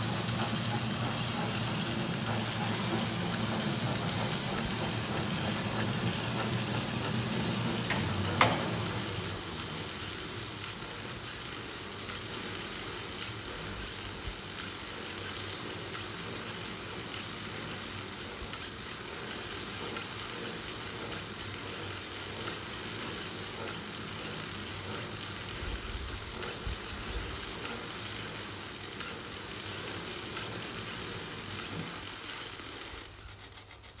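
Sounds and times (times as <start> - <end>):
hiss of stretch film feeding: 0.0 - 34.0.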